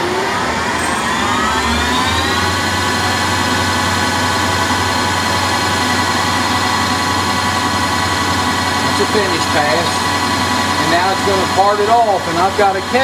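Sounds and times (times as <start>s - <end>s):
lathe spindle whine: 0.0s - 13.0s.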